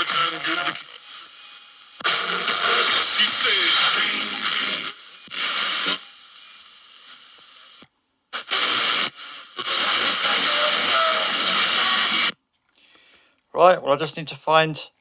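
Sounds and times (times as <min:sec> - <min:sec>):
radio static hiss: 0:00.0 - 0:12.3.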